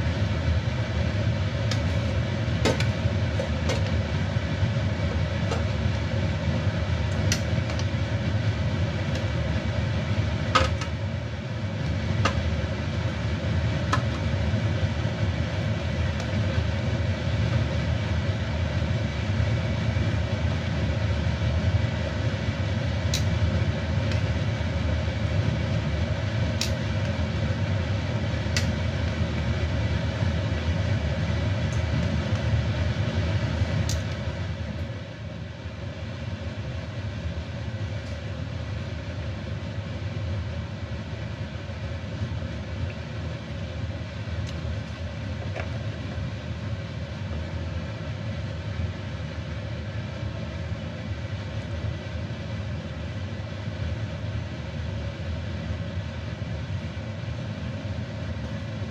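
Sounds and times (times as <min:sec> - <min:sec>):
water boiling in a wok: 0:00.0 - 0:58.9.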